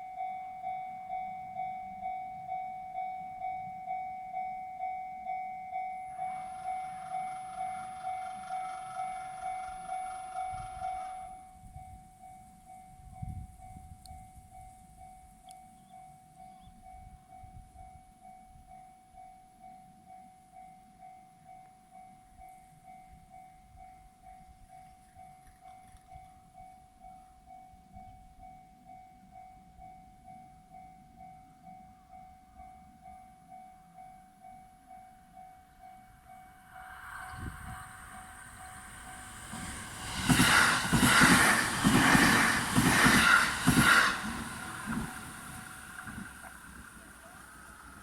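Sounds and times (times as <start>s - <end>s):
level-crossing warning bell: 0.0s - 48.0s
approaching train rumble: 6.1s - 18.7s, 22.2s - 48.0s.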